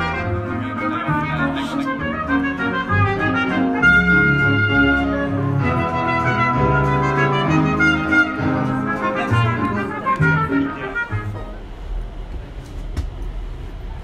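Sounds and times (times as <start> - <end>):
orchestra playing held chords: 0.0 - 11.9.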